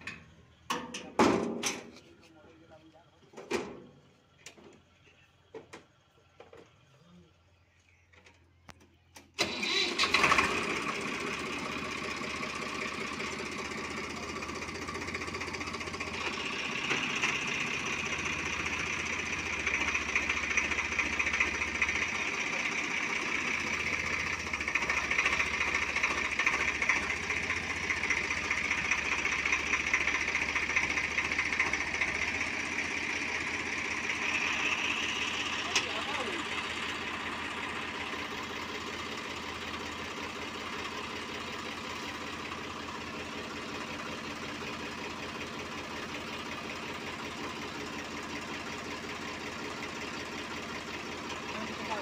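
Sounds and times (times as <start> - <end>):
diesel tractor engine running: 0.0 - 52.0.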